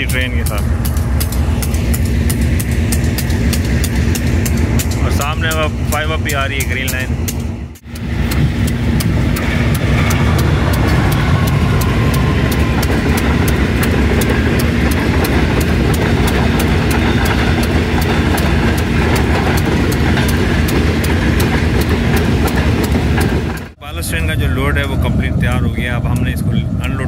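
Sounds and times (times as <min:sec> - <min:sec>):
passenger train passing: 0:00.0 - 0:27.0.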